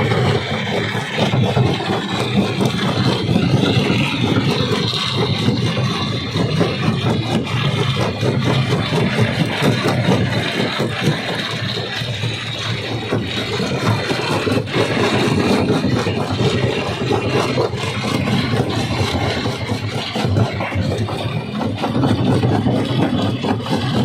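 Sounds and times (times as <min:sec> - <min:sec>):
heavy machine drone: 0:00.0 - 0:24.0.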